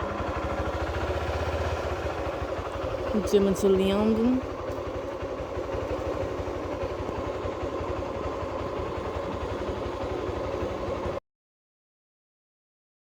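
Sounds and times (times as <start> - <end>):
vehicle engine running: 0.0 - 11.2.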